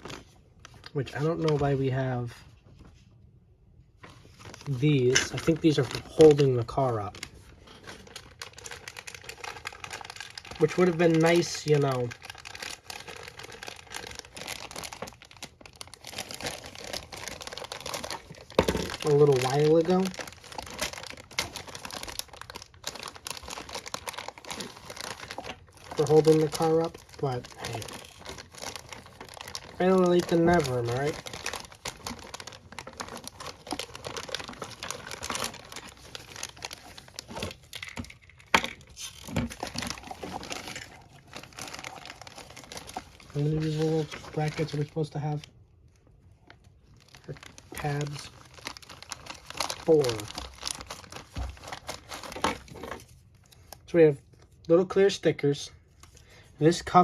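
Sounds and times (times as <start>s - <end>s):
plastic packaging crinkling: 3.9s - 54.6s.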